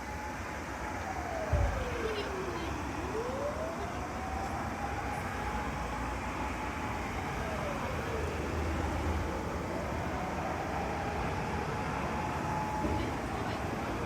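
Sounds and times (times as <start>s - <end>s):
faint siren wailing: 0.0s - 14.0s
road noise rumble: 0.0s - 14.0s.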